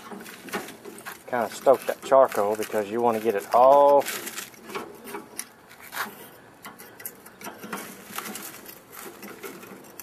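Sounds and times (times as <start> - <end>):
charcoal crackling: 0.0 - 10.0
coals clicking as stoked: 0.0 - 10.0.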